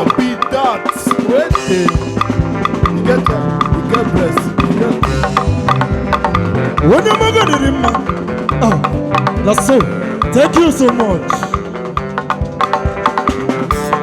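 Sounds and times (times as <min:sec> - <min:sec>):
drums and percussion beat: 0:00.0 - 0:14.0.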